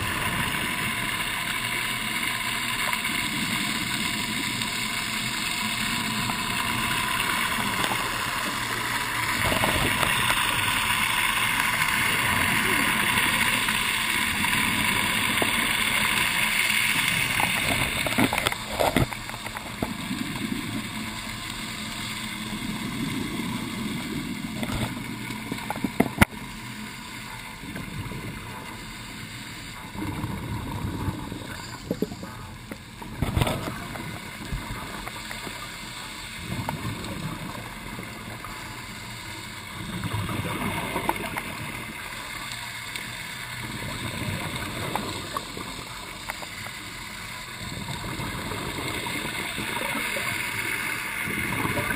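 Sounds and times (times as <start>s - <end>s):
muffled regulator bubbles gurgling: 0.0s - 51.9s.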